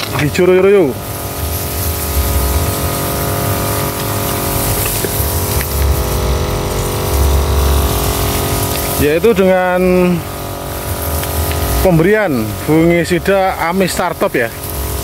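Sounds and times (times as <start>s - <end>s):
crop sprayer running: 0.0s - 15.0s.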